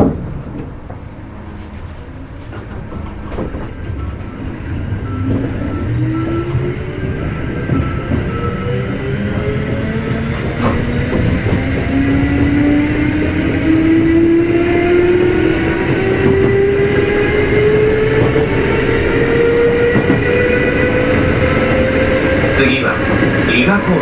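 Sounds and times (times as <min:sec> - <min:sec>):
wheels rumbling on rail: 0:00.0 - 0:24.0
train motor whine rising: 0:03.3 - 0:24.0.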